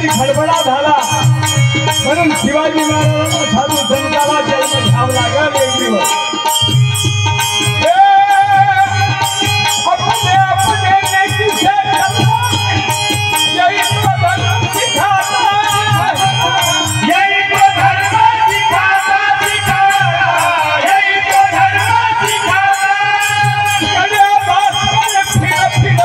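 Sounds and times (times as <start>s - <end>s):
men singing: 0.0s - 6.5s, 7.4s - 26.0s
harmonium: 0.0s - 26.0s
rattling percussion beat: 0.0s - 26.0s.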